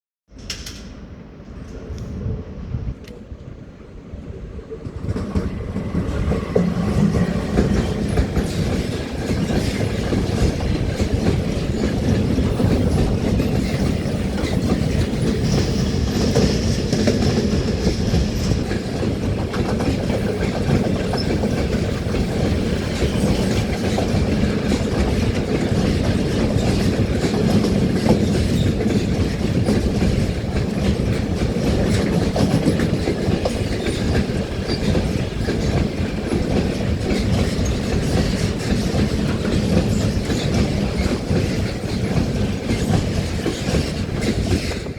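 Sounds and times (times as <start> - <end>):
train wheels clattering: 0.3 - 2.0, 4.8 - 44.9
heavy train rumble: 0.3 - 44.9.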